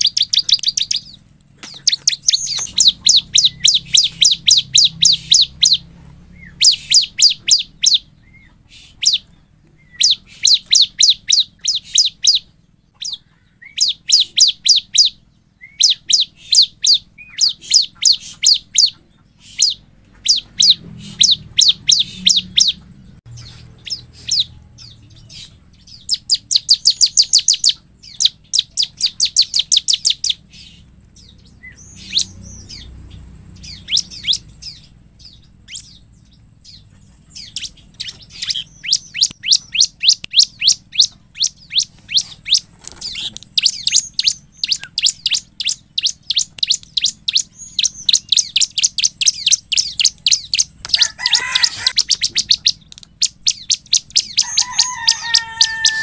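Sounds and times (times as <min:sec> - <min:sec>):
bird singing rapid trills: 0:00.0 - 0:56.0.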